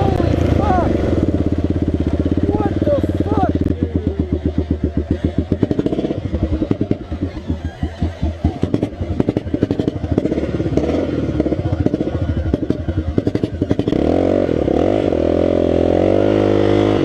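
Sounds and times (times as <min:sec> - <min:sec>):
quad engine running: 0:00.0 - 0:17.0.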